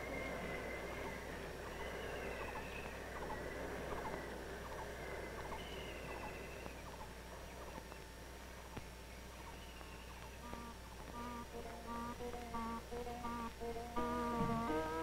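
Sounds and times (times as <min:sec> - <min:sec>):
bird calls: 0:00.0 - 0:15.0
steady hiss: 0:00.0 - 0:15.0.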